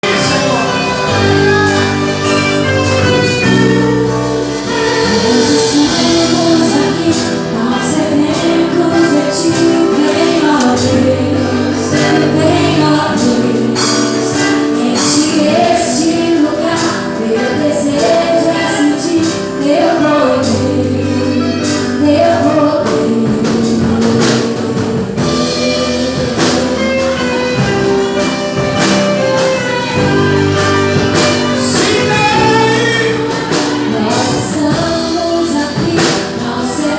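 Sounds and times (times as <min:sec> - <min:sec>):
worship song sung over band: 0:00.0 - 0:36.9.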